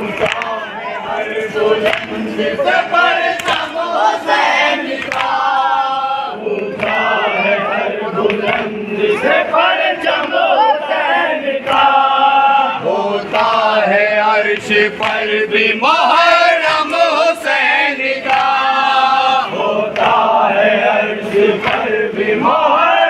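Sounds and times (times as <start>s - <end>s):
men chanting a lament: 0.0s - 23.0s.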